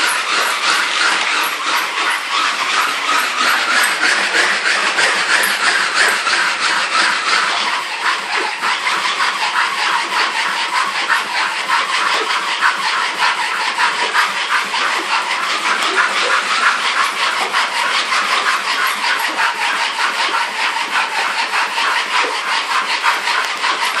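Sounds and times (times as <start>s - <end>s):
paws clattering on treadmill belt: 0.0s - 24.0s.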